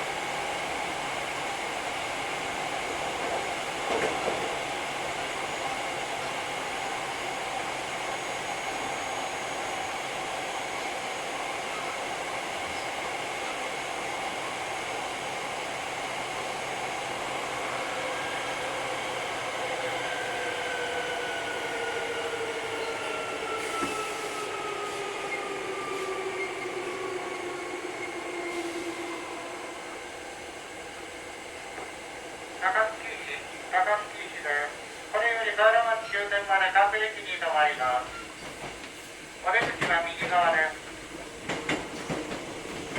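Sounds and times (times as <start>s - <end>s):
electric train rumble: 0.0s - 42.9s.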